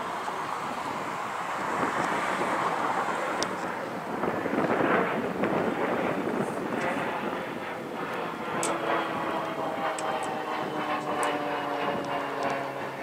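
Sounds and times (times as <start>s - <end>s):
diesel locomotive engines droning: 0.0s - 13.0s.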